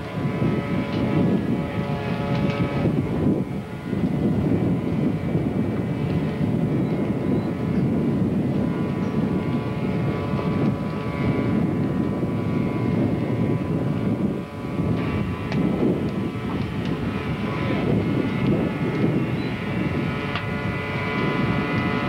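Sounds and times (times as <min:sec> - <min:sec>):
faint steady whine: 0:00.0 - 0:22.0
fire engines droning: 0:00.0 - 0:22.0.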